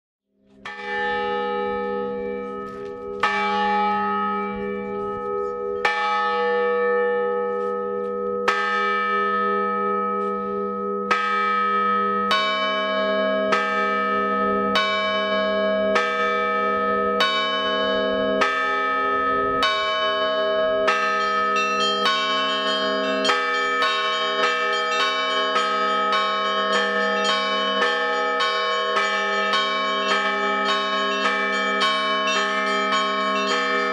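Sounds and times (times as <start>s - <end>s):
church bells ringing: 0.5s - 33.9s
small high bells: 0.6s - 33.9s.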